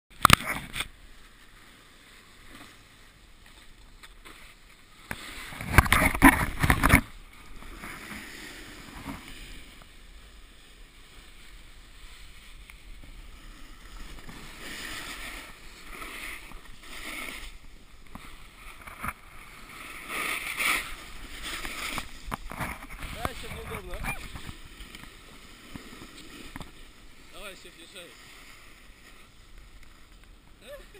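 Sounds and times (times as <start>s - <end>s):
snowboard scraping over snow: 0.5s - 30.9s.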